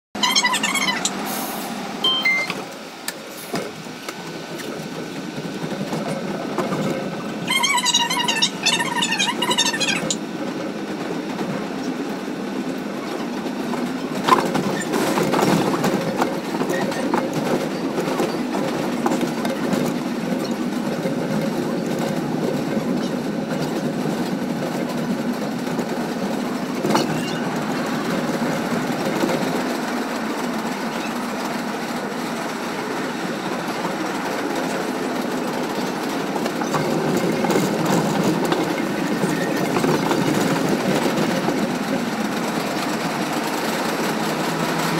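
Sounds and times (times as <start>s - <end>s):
train wheels rumbling on rail: 0.2s - 44.9s
sharp clacks of wheels: 2.5s - 44.9s.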